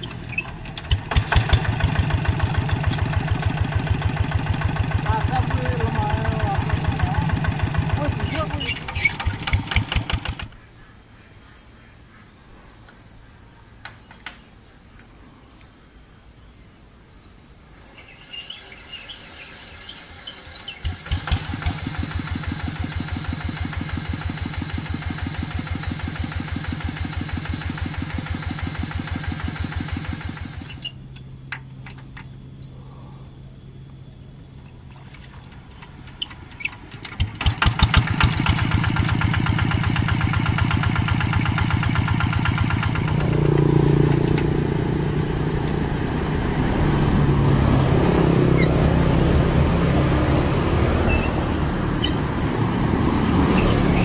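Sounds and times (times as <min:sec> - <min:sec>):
diesel engines chugging: 0:00.0 - 0:10.5, 0:18.4 - 0:33.4, 0:35.1 - 0:54.0.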